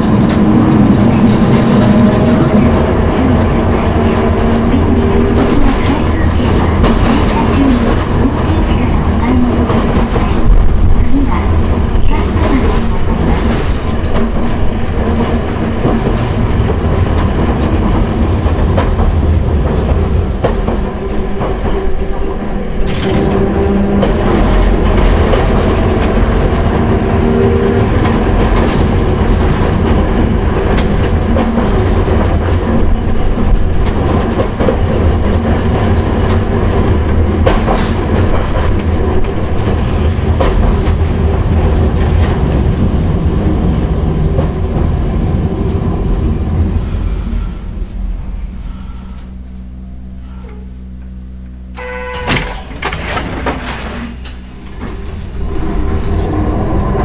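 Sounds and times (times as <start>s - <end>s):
tram motors droning: 0.0s - 57.0s
wheels rumbling on rails: 0.0s - 57.0s.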